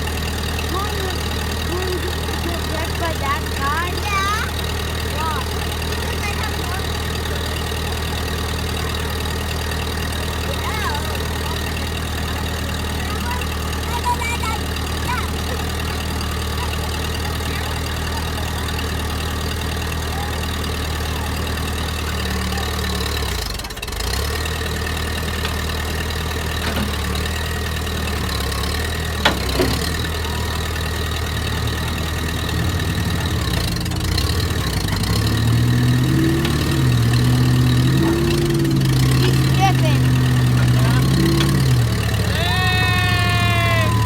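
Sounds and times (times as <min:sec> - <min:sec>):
vehicle engine idling: 0:00.0 - 0:44.0.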